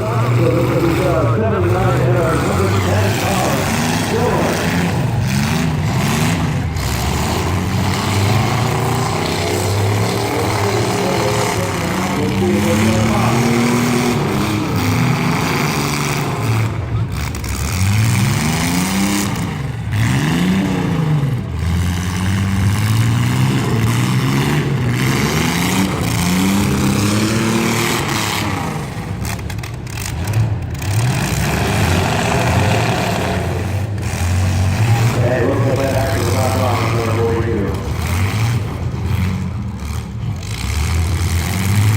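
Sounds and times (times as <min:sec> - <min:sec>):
car and truck engines revving: 0:00.0 - 0:41.9.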